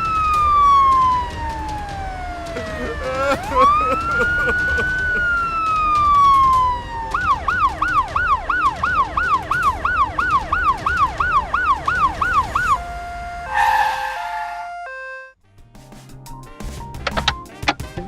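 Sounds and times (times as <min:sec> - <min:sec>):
toy siren yelping: 0:00.0 - 0:15.3.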